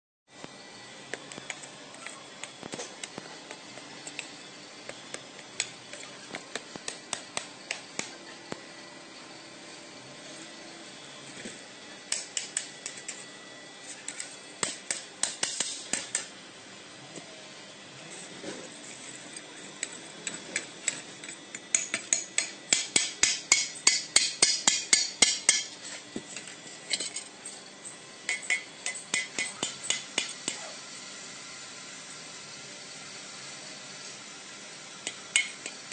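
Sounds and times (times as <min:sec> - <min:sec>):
steady background hum: 0:00.3 - 0:35.9.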